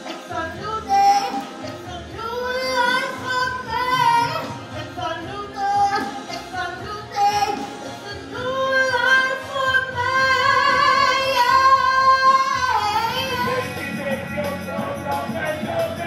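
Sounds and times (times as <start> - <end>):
musical accompaniment: 0.0 - 16.0.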